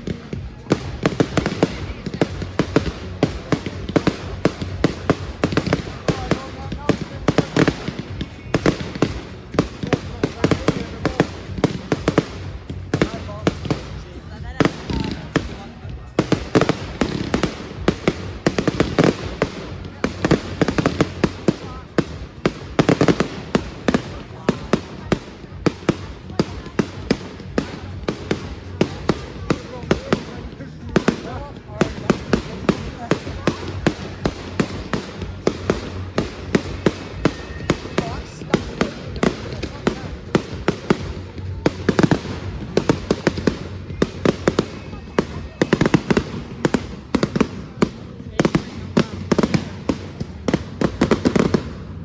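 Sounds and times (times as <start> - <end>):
fireworks bangs: 0.0 - 52.0.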